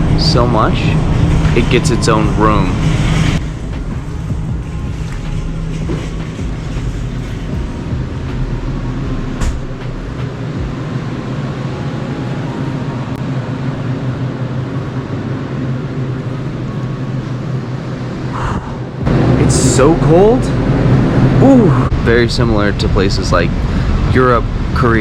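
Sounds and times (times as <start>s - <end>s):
refrigeration fans humming: 0.0s - 25.0s.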